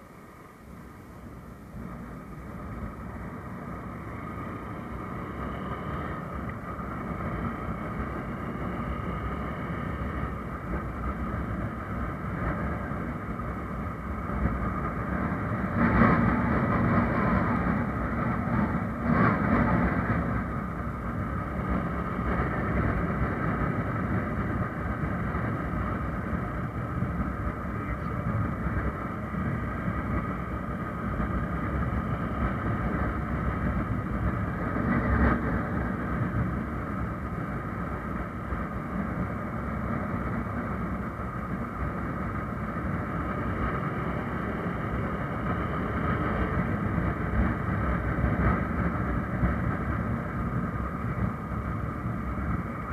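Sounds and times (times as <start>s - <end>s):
road noise: 0.0s - 52.9s
wind rushing over microphone: 0.0s - 52.9s
motorcycle engine: 1.8s - 52.9s.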